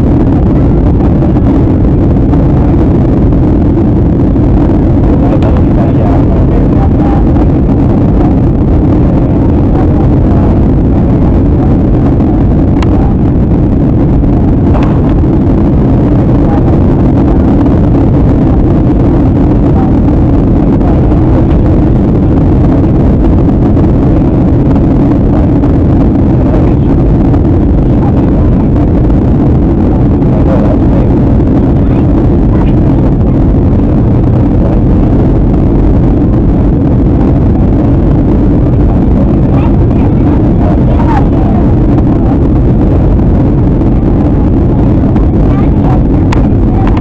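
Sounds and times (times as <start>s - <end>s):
airliner cabin engine noise: 0.0s - 47.0s.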